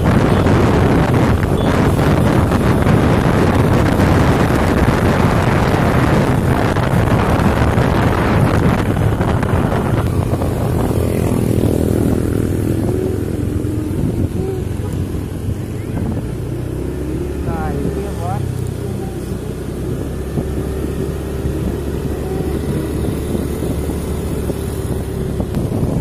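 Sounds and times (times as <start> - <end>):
motorcycle engine hum: 0.0 - 26.0
wind rushing over microphone: 0.0 - 26.0.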